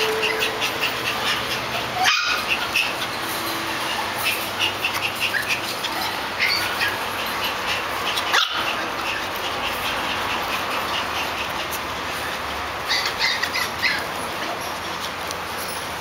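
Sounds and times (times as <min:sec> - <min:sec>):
dogs barking: 0:00.0 - 0:15.3.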